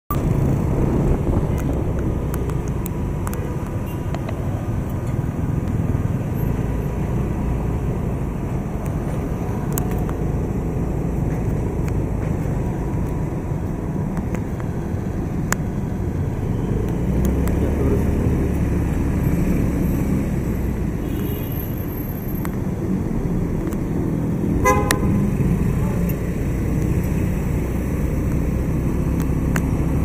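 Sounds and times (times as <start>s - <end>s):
city traffic rumble: 0.1s - 30.0s.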